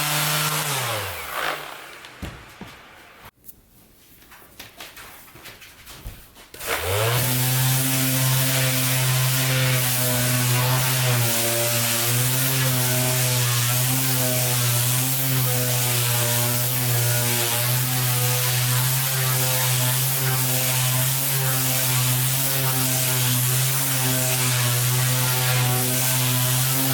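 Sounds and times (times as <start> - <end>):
power saw cutting plywood: 0.0 - 3.3, 6.6 - 26.9.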